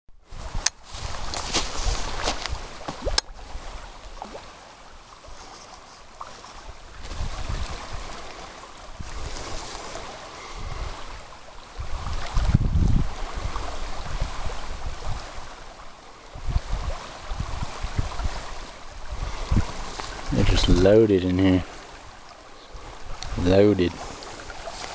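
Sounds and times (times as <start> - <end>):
creek water running: 0.2 - 24.9
wind rumbling on microphone: 0.2 - 24.9.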